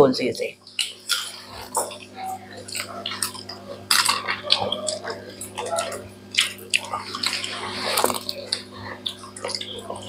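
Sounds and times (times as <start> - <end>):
steady low hum: 0.0 - 10.0
wet chewing and lip smacks: 0.6 - 10.0.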